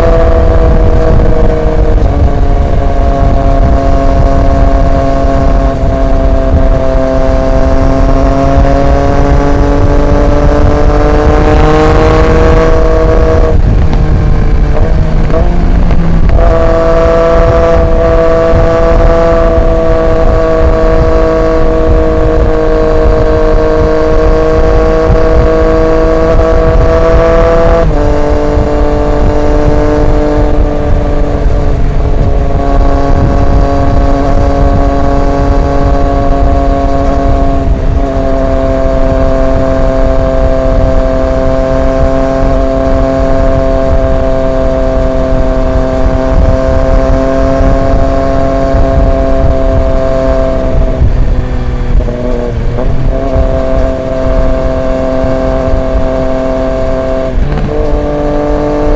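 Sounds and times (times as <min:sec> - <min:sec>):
motorcycle engine cruising: 0:00.0 - 0:58.9.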